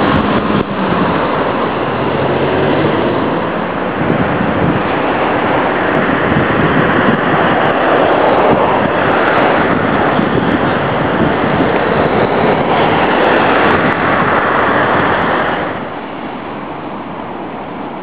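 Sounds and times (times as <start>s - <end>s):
low engine hum: 0.0s - 18.0s
road traffic rushing: 0.0s - 18.0s
wind on microphone: 0.0s - 18.0s.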